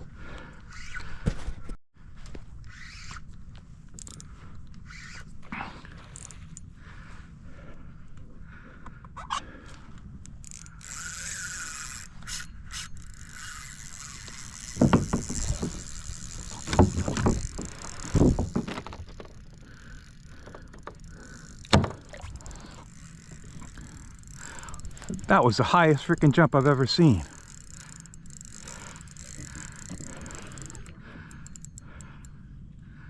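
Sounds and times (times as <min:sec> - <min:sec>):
fishing reel clicking: 0:02.6 - 0:06.7, 0:09.6 - 0:32.5.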